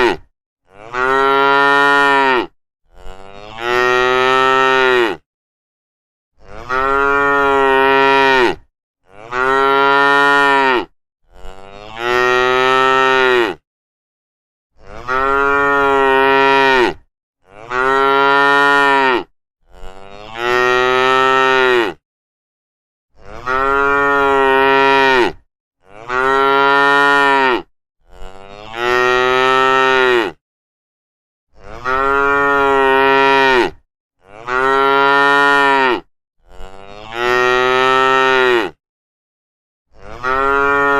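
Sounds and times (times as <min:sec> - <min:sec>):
cows mooing: 0:00.0 - 0:05.2, 0:06.4 - 0:13.6, 0:14.8 - 0:22.0, 0:23.3 - 0:30.4, 0:31.6 - 0:38.8, 0:40.0 - 0:40.9.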